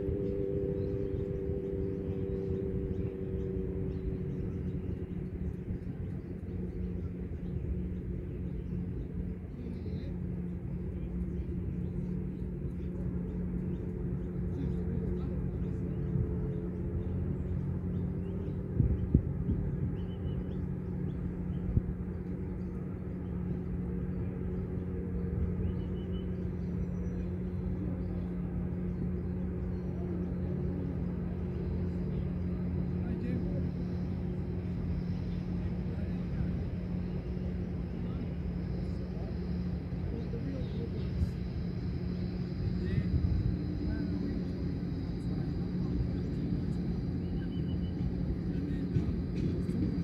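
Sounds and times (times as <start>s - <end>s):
constant low hum: 0.0s - 50.0s
low outdoor rumble: 0.0s - 50.0s.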